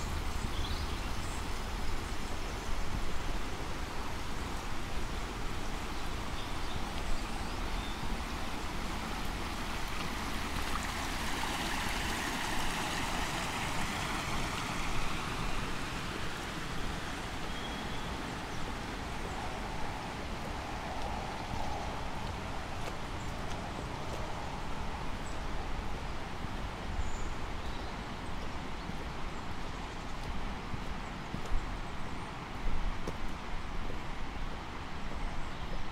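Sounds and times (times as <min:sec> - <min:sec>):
steady outdoor rushing noise: 0:00.0 - 0:35.9.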